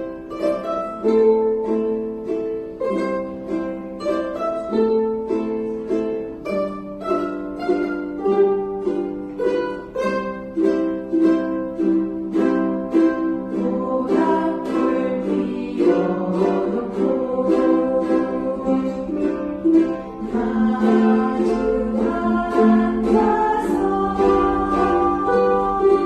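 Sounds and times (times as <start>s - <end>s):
ukulele strumming chords: 0.0s - 26.0s.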